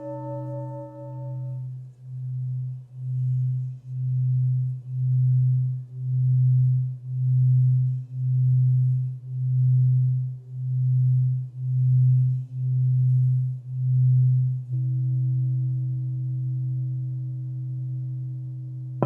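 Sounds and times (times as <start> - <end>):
singing bowl pulsing low tone: 0.0 - 19.0.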